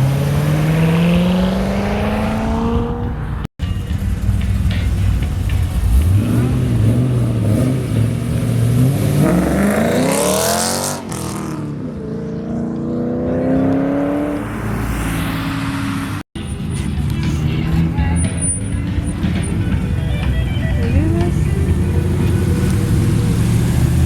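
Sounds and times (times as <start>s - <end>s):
car engine accelerating: 0.0s - 3.5s, 4.2s - 20.2s, 20.8s - 24.0s.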